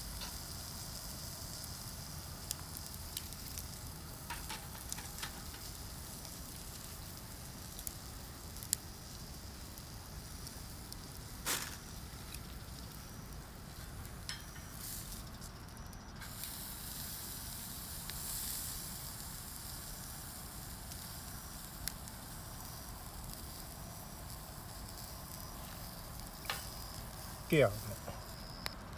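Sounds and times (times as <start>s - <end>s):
steak sizzling on a grill: 0.0s - 28.9s
wood fire popping: 0.0s - 28.9s.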